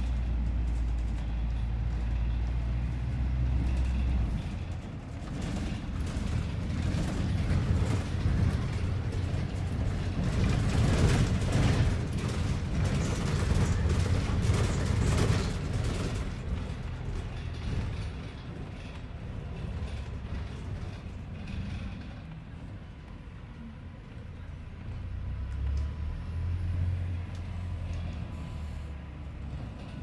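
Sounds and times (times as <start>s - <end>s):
bus body rattling and creaking: 0.0s - 30.0s
bus engine and road rumble: 0.0s - 30.0s.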